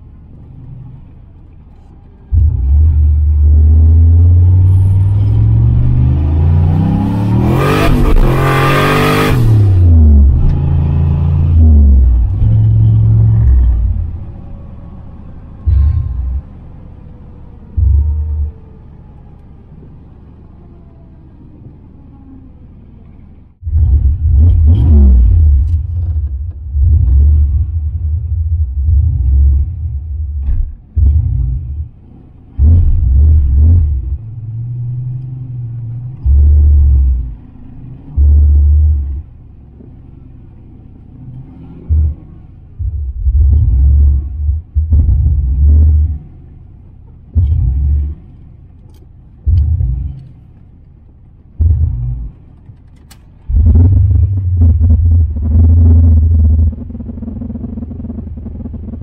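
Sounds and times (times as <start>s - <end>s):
car engine revving: 2.3s - 19.8s, 23.5s - 59.0s.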